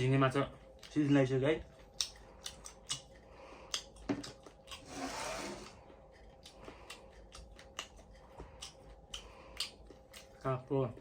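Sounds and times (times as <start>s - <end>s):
chewing crunchy fried shrimp: 0.0s - 5.0s, 5.6s - 11.0s.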